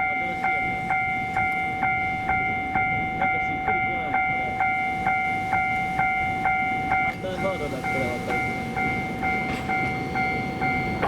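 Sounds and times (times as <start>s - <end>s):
railway crossing bell ringing: 0.0s - 11.0s.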